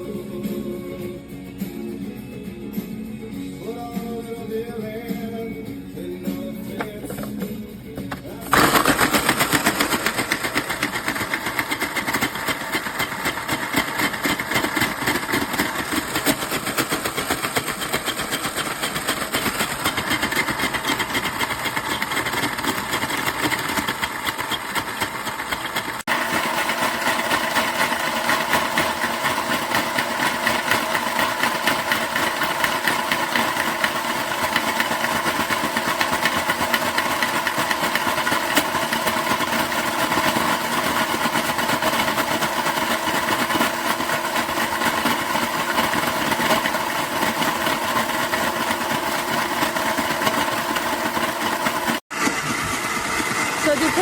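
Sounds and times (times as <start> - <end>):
electric ice shaver grinding ice: 6.7 - 54.0.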